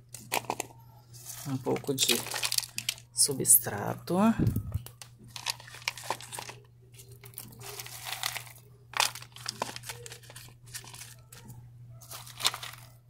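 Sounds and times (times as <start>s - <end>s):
bark chips crunching in a pot: 0.0s - 3.6s, 4.8s - 13.0s.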